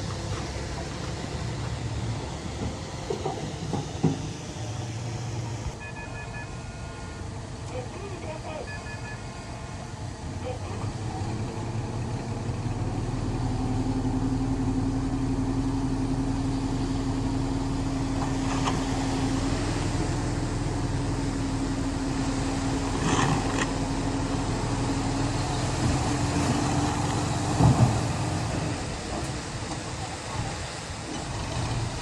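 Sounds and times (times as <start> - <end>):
earthmoving machinery engine running: 0.0 - 32.0.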